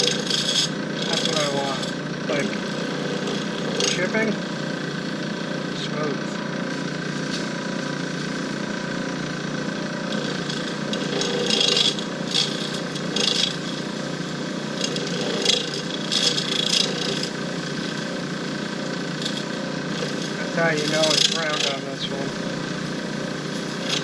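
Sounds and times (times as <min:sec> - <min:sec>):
lathe running: 0:00.0 - 0:24.0
turning tool cutting wood: 0:00.0 - 0:24.0.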